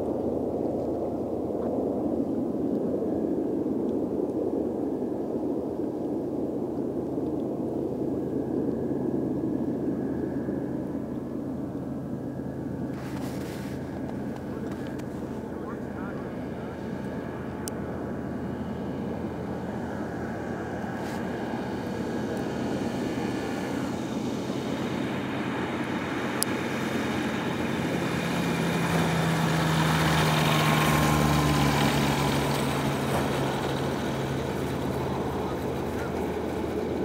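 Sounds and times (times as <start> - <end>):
ultralight engine and propeller: 0.0 - 37.0.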